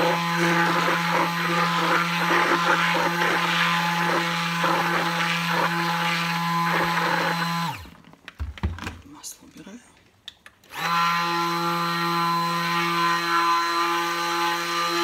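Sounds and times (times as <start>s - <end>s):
immersion blender motor hum: 0.0s - 8.0s, 10.7s - 15.0s.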